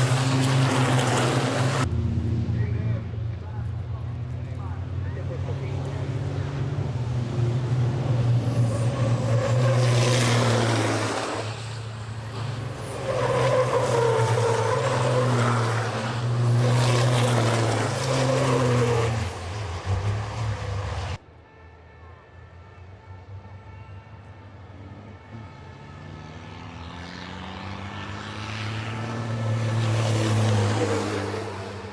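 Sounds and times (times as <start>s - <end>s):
truck diesel engines running hard: 0.0s - 21.3s, 22.5s - 31.9s.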